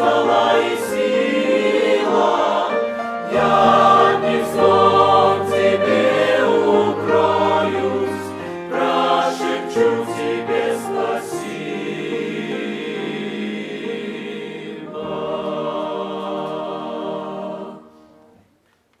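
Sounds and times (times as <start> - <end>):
choir singing a hymn: 0.0 - 18.4.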